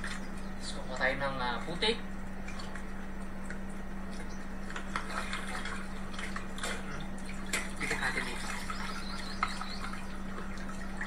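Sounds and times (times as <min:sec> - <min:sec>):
steady hum: 0:00.0 - 0:11.0
water splashing and sloshing: 0:00.0 - 0:11.0.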